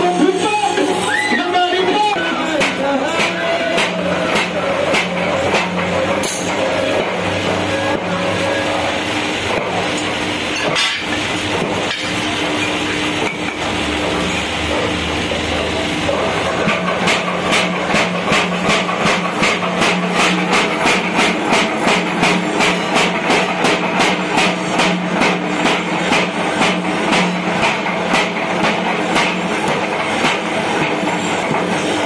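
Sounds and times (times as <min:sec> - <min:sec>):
power hammer striking: 0:01.9 - 0:08.8, 0:09.4 - 0:32.0.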